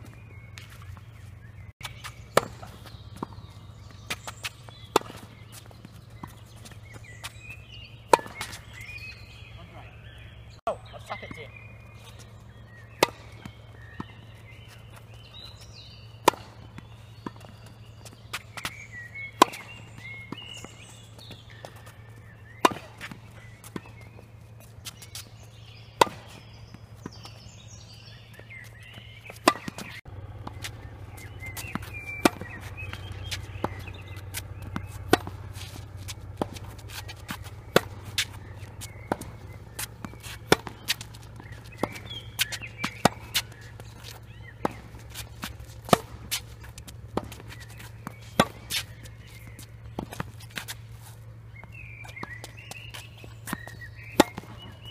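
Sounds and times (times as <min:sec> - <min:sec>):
racket hitting tennis ball: 0:00.0 - 0:01.2, 0:01.8 - 0:10.5, 0:11.2 - 0:54.9
ball bouncing on hard court: 0:01.8 - 0:10.2, 0:12.9 - 0:27.5, 0:28.3 - 0:50.9, 0:51.6 - 0:54.9.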